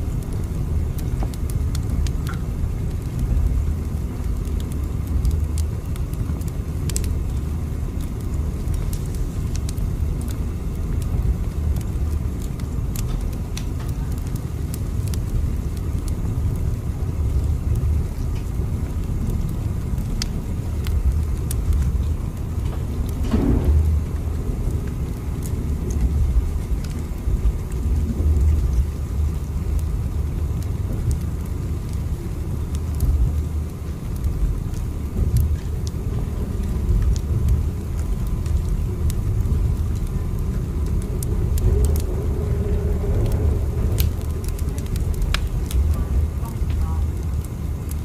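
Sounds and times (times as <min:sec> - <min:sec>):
train rumble: 0:07.3 - 0:48.0.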